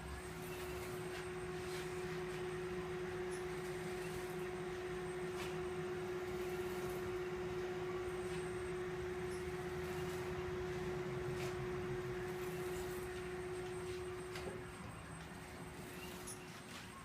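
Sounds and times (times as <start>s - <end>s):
engine humming tone: 0.0s - 17.0s.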